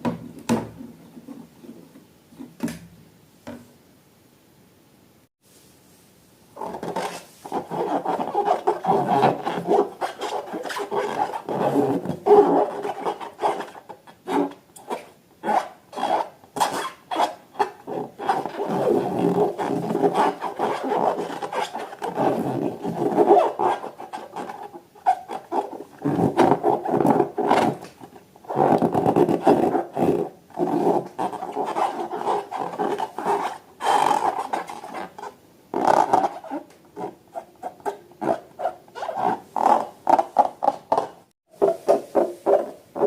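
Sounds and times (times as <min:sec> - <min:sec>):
balloons squeaking when rubbed: 0:06.6 - 0:43.0.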